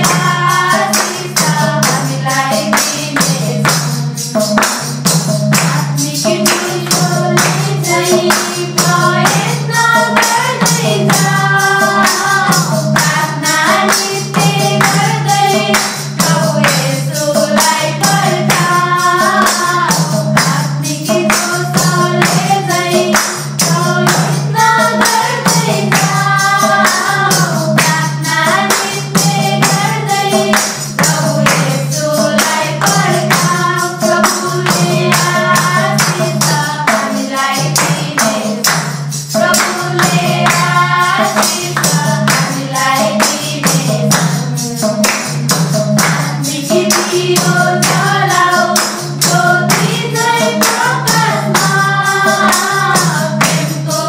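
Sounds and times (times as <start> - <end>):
group of young voices singing: 0.0 - 54.0
hand clapping: 0.0 - 54.0
tambourine jingling: 0.0 - 54.0.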